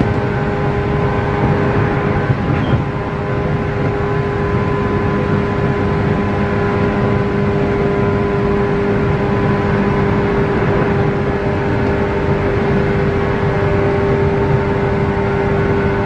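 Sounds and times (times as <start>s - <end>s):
train traction motors humming: 0.0s - 16.0s
wheels rumbling on rails: 0.0s - 16.0s.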